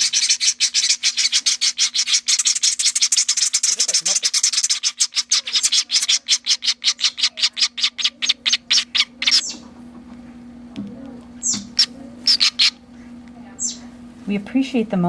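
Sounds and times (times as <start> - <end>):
single bird calls: 0.0 - 9.7, 11.4 - 13.9
nestling swifts chattering: 0.0 - 9.8, 11.3 - 14.0.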